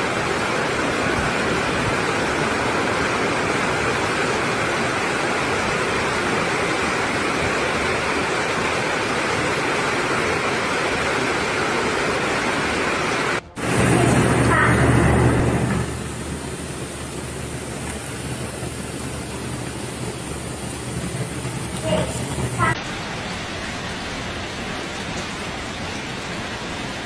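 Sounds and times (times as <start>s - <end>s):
floodwater rushing: 0.0s - 27.0s
heavy rain: 0.0s - 27.0s.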